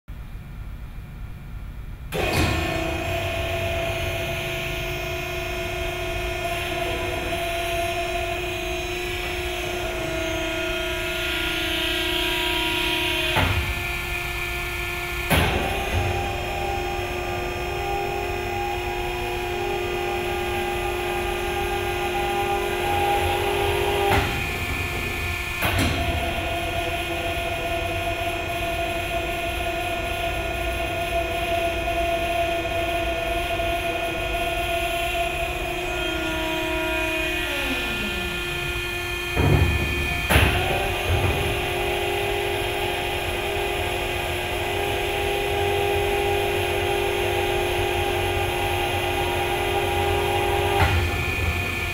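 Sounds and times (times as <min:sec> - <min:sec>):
hydraulic machine whine and hum: 0:00.2 - 0:51.9.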